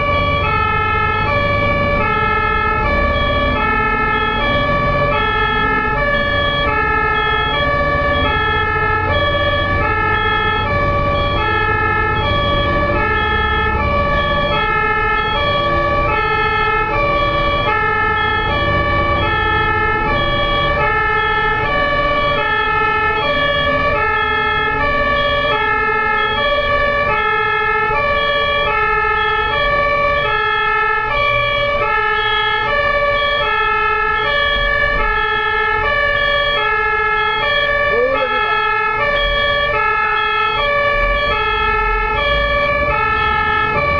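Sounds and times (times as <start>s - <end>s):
ambulance two-tone siren: 0.0s - 43.9s
road traffic rumble: 0.0s - 43.9s.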